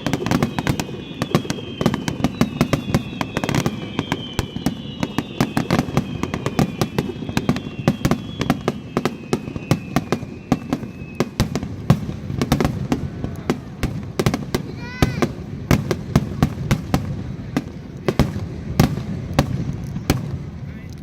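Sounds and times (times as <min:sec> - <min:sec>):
fireworks whistling: 0:00.0 - 0:20.9
fireworks bursting and crackling: 0:00.0 - 0:21.0.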